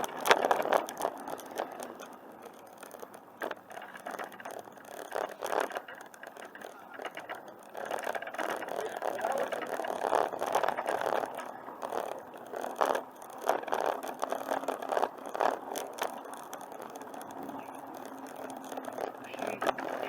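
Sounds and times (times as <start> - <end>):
bicycle rolling on trail: 0.0 - 20.0
bike rattling over bumps: 0.0 - 20.0.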